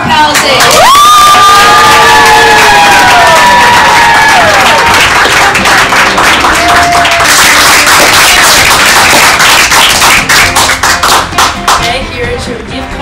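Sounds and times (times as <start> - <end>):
group cheering and clapping: 0.0 - 11.9.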